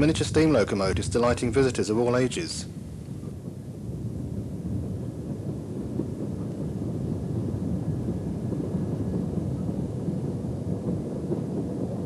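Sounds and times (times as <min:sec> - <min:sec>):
steam train rumbling: 0:00.0 - 0:12.0
wind buffeting microphone: 0:00.0 - 0:12.0.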